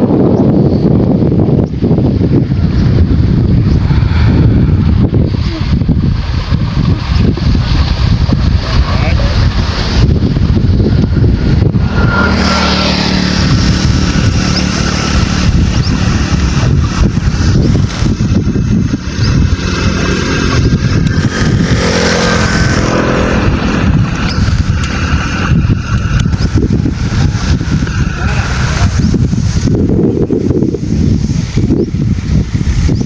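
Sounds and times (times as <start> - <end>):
vehicle engine running: 0.0 - 33.0
wind buffeting microphone: 0.0 - 33.0.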